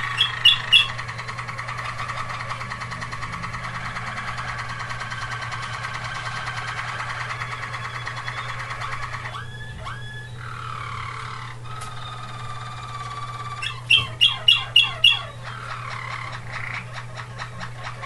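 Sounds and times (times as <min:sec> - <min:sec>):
canary singing: 0:00.0 - 0:18.0.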